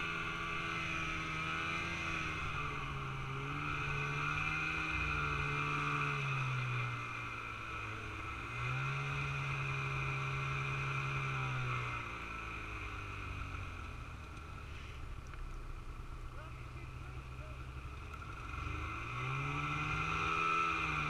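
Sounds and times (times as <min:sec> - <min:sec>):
snowmobile engine and track running: 0:00.0 - 0:21.0.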